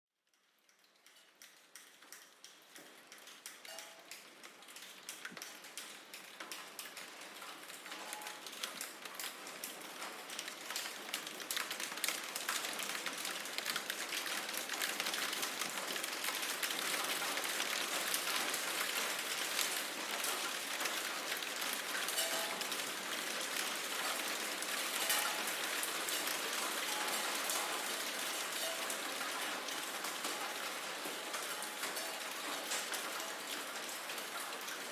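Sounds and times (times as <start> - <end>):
rain drops striking a surface: 0.3 - 34.9.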